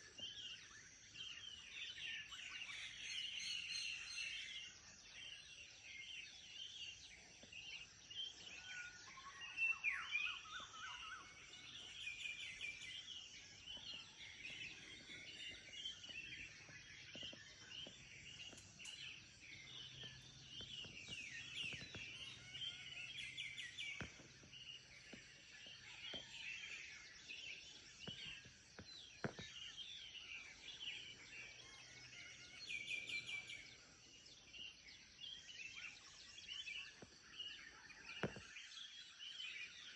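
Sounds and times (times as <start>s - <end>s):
nearby bird calls: 0.0s - 39.9s
small birds chirping and twittering: 0.0s - 39.9s.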